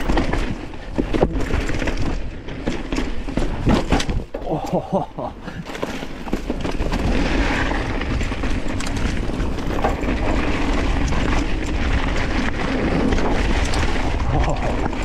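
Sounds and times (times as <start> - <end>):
bicycle tyre noise on dirt: 0.0 - 15.0
bike rattling and knocking: 0.0 - 15.0.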